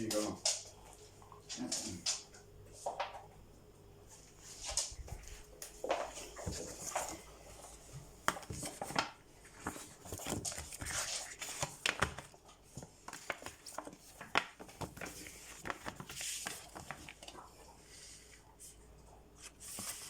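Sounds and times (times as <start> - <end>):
soft crinkling rustles: 0.0 - 20.0.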